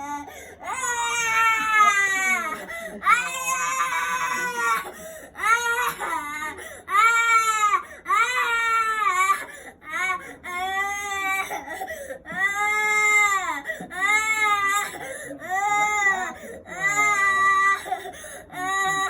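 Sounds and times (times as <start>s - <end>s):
baby crying: 0.0s - 19.0s.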